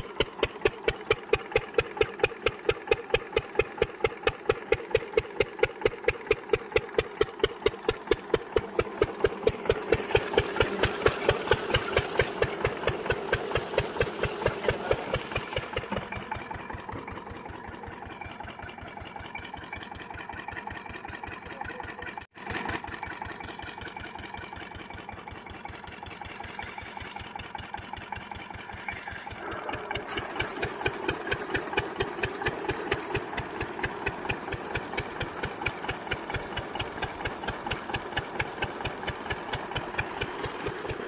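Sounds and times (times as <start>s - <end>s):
diesel pump engine running: 0.0s - 41.0s.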